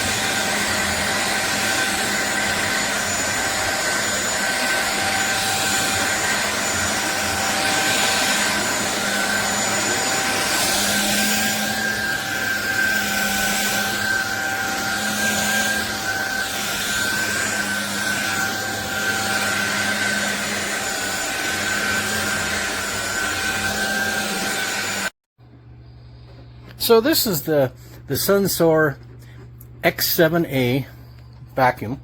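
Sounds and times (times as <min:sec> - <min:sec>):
stick vacuum cleaner running: 0:00.0 - 0:30.9.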